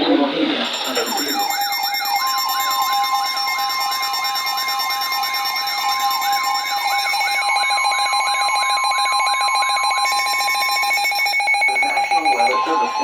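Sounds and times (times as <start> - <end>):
two-tone alarm: 0.0 - 13.0
siren-like wail sweeping: 0.7 - 13.0.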